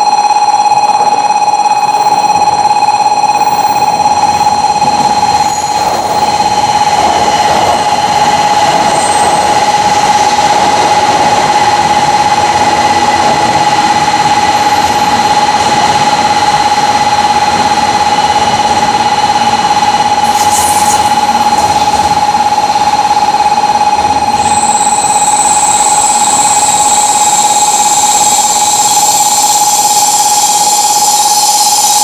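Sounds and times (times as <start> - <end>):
constant high tone: 0.0 - 32.0
train rushing running noise: 0.8 - 32.0.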